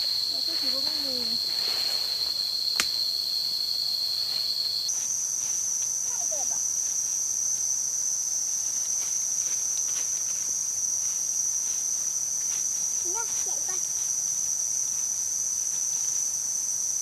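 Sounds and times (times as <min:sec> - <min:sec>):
footsteps rustling dry leaves: 0:00.0 - 0:07.9, 0:08.6 - 0:16.4
insects buzzing: 0:00.0 - 0:17.0.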